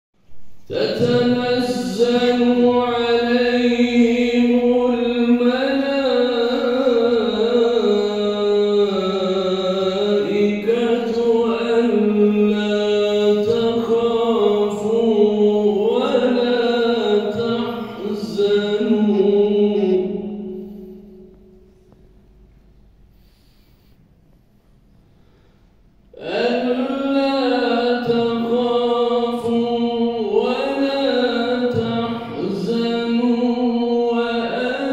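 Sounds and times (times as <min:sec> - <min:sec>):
echo in large hall: 0:00.2 - 0:34.9
man chanting melodically: 0:00.6 - 0:21.8, 0:26.2 - 0:34.9.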